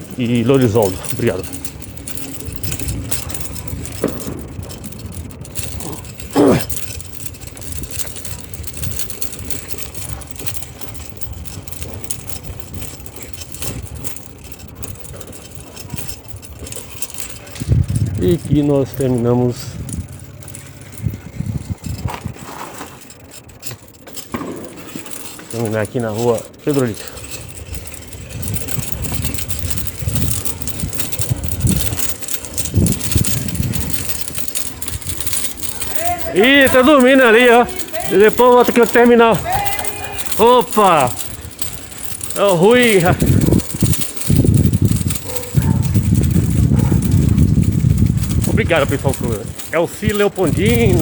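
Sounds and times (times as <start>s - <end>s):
bicycle rumbling along street: 0.0s - 51.0s
light rattling: 0.0s - 51.0s.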